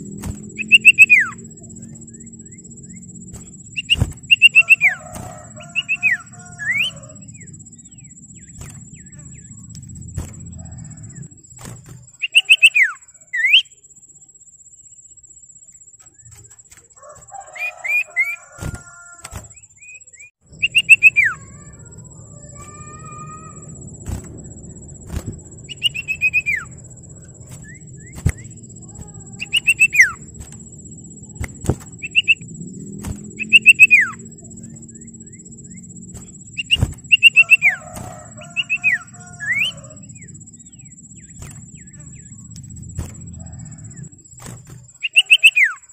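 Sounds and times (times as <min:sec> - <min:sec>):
low steady hum: 0:00.0 - 0:12.2, 0:20.4 - 0:45.1
bird singing: 0:00.0 - 0:45.9.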